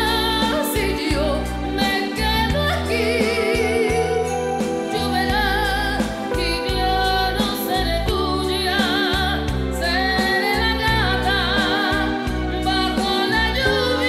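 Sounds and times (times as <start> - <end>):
live band playing: 0.0 - 14.0
woman singing: 0.0 - 14.0.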